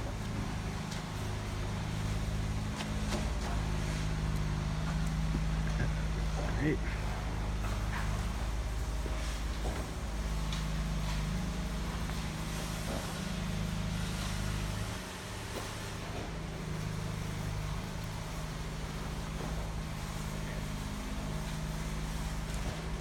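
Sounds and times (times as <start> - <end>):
heavy engine running: 0.0 - 23.0.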